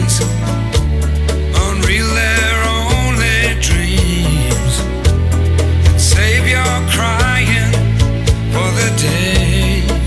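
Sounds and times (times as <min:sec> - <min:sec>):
person singing: 0:00.0 - 0:10.0
strong bass line: 0:00.0 - 0:10.0.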